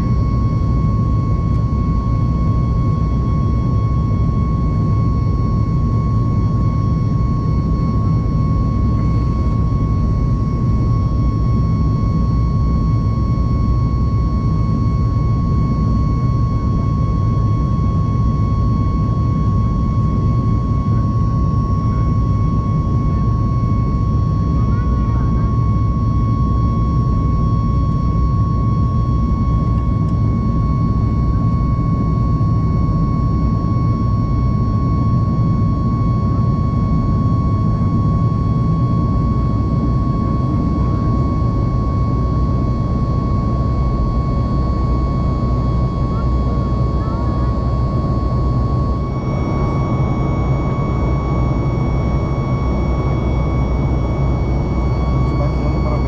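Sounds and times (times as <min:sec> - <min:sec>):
airflow and jet engine rush: 0:00.0 - 0:56.0
high whine: 0:00.0 - 0:56.0.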